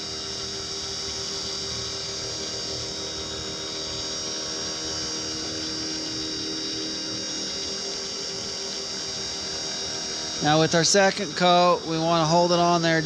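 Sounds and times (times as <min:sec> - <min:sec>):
wood lathe motor whine: 0:00.0 - 0:13.0.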